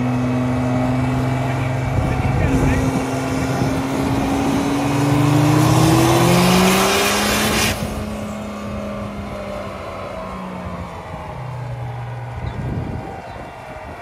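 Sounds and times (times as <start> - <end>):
diesel engine revving under load: 0.0 - 14.0
dyno rollers humming: 0.0 - 14.0.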